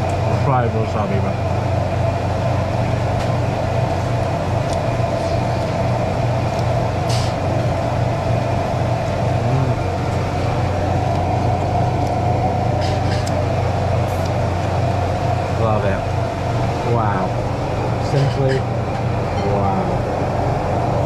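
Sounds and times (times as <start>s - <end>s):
high drone: 0.0s - 21.0s
low mechanical hum: 0.0s - 21.0s.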